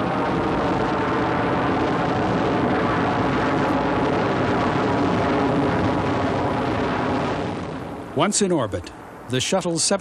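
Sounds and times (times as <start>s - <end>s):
rocket engines roaring: 0.0s - 10.0s.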